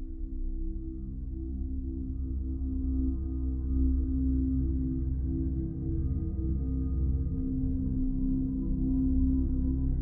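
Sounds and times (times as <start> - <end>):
ambient music with deep bass: 0.0 - 10.0.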